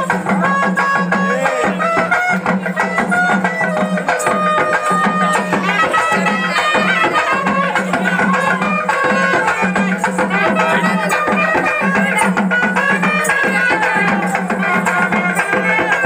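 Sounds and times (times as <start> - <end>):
frame drums beaten fast: 0.0 - 16.0
reed pipe melody: 0.0 - 16.0.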